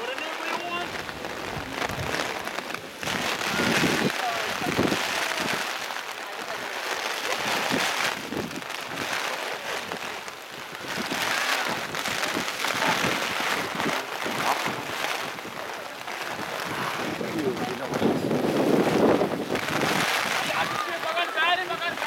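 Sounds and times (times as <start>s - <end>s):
rain and wind on microphone: 0.0s - 22.0s.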